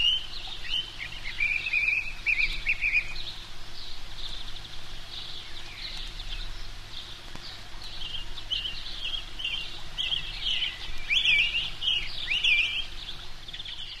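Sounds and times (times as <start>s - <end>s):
faint low hum: 0.0s - 14.0s
small birds chirping: 0.0s - 14.0s.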